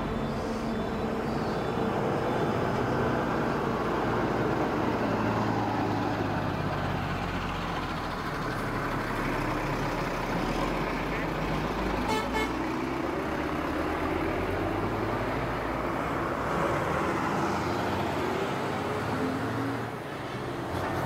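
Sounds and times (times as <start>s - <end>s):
vehicle engines running: 0.0s - 21.0s.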